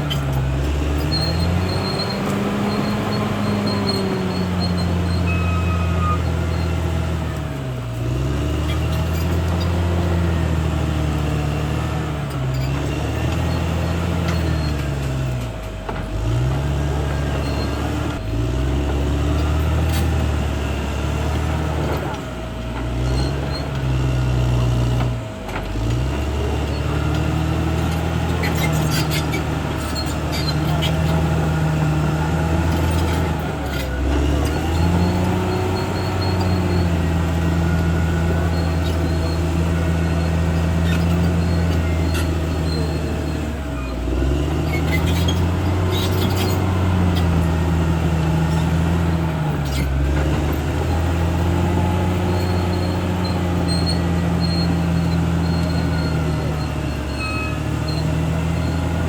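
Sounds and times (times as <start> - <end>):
bulldozer diesel engine running hard: 0.0 - 59.0.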